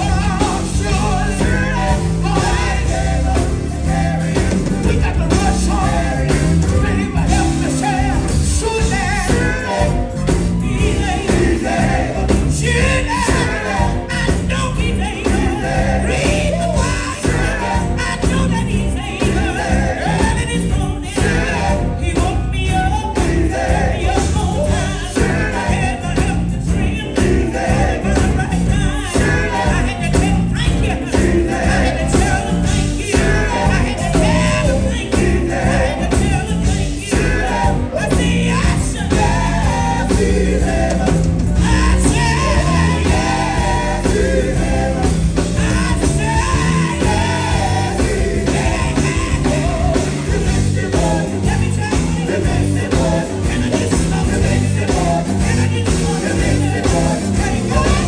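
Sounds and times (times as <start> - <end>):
gospel singing: 0.0 - 58.0
heavy bass: 0.0 - 58.0
steady drum beat: 0.0 - 58.0.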